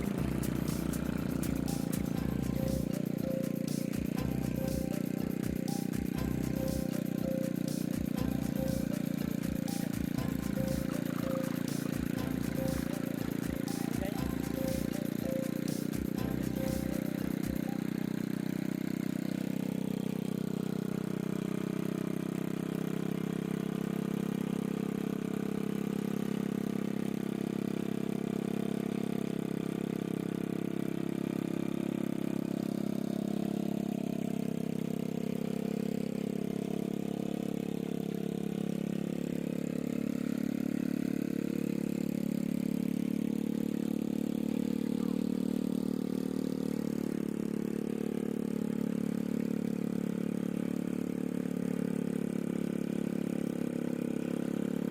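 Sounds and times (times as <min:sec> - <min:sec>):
small motorcycle engine running: 0:00.0 - 0:54.9.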